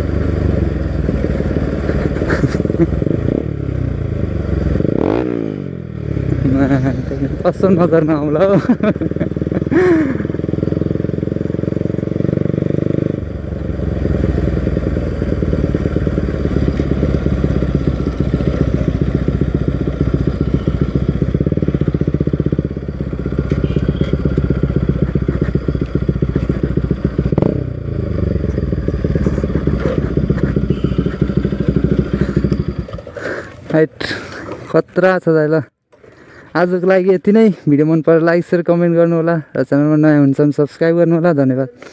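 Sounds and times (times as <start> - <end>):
motorcycle engine running: 0.0 - 35.2.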